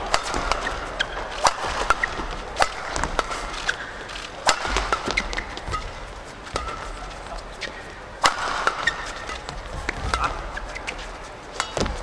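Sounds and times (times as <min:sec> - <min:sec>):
rackets striking shuttlecock: 0:00.0 - 0:12.0
shoes squeaking on court: 0:00.1 - 0:12.0.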